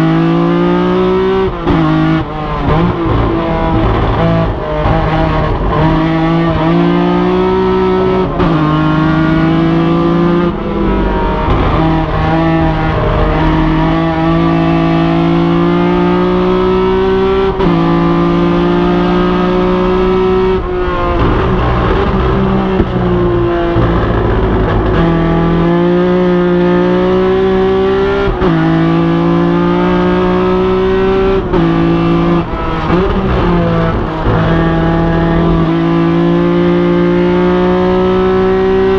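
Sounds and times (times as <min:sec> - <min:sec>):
race car engine shifting gears: 0:00.0 - 0:38.9.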